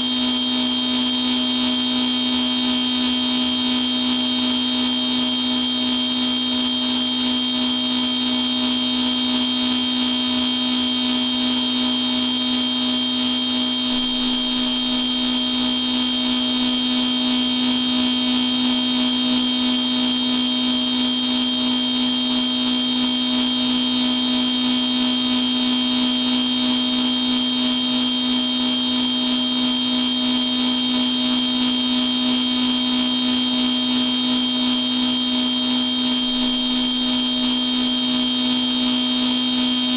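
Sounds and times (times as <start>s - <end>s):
machine tool humming and whining: 0.0s - 39.9s.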